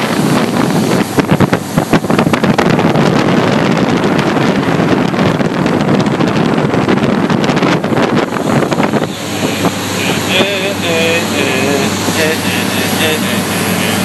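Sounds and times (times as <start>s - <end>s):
boat engine: 0.0s - 14.0s
water rushing: 0.0s - 14.0s
wind buffeting microphone: 0.0s - 14.0s.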